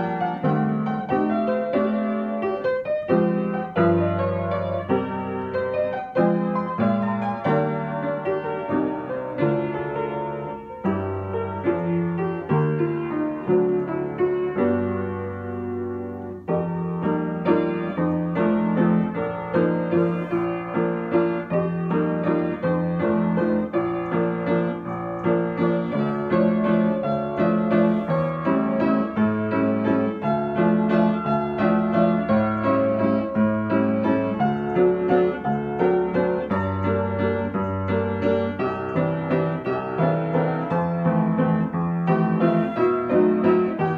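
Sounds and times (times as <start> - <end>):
acoustic piano melody: 0.0 - 43.9.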